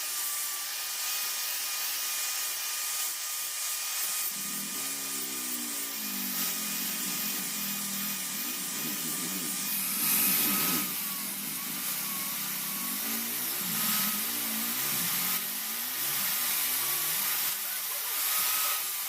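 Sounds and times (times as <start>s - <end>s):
electric power tool whining: 0.0s - 19.0s.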